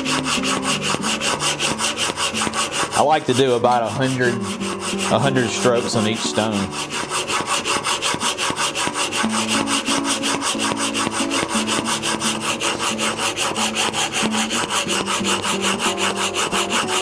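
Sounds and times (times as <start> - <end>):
blade scraping on sharpening stone: 0.0 - 17.0.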